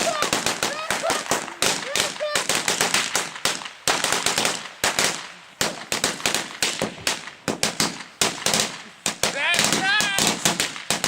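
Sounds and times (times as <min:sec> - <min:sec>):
firecrackers cracking: 0:00.0 - 0:11.0.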